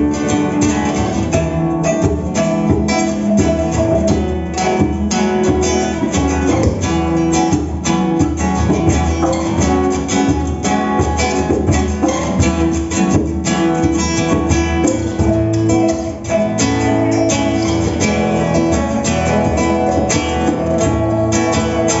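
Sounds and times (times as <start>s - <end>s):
plucked string ensemble: 0.0s - 22.0s.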